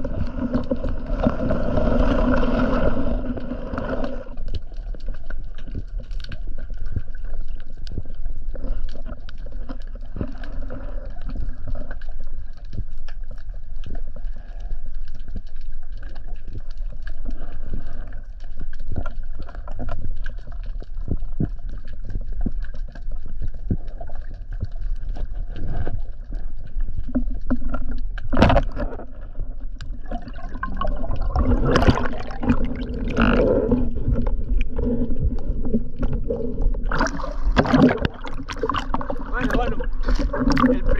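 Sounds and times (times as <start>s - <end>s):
bubbling and rustling: 0.0s - 40.9s
muffled underwater rush: 0.0s - 40.9s.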